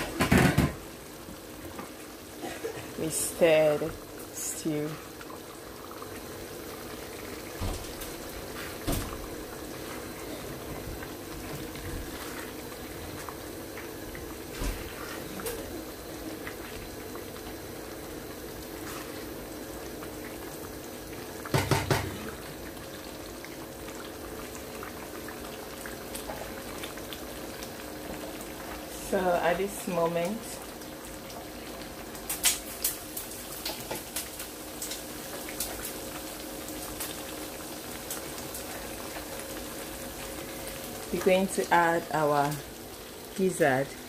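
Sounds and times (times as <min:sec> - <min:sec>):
stew bubbling in a pan: 0:00.0 - 0:44.0.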